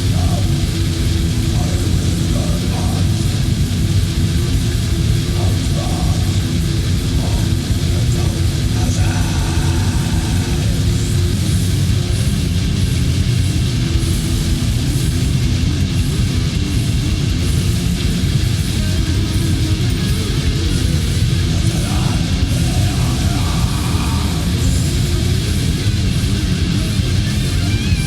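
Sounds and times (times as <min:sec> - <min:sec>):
distorted electric guitars: 0:00.0 - 0:28.0
drums: 0:00.0 - 0:28.0.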